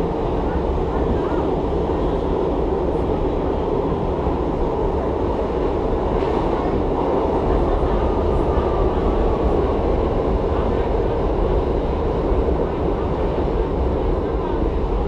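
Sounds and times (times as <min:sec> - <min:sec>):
subway car rumbling on track: 0:00.0 - 0:15.0.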